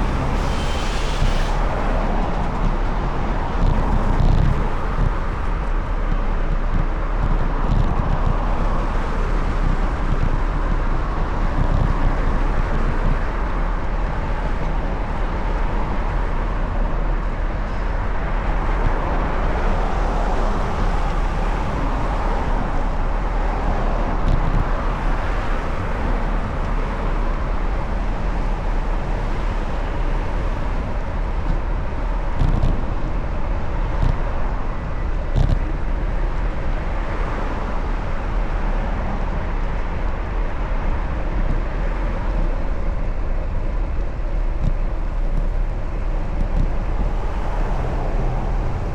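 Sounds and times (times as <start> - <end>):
traffic and road noise: 0.0 - 48.9
wind rumbling on microphone: 0.0 - 48.9.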